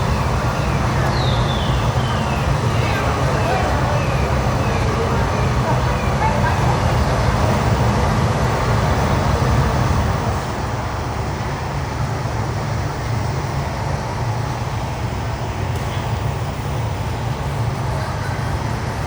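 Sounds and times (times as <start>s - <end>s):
low rumbling ambient noise: 0.0s - 19.0s.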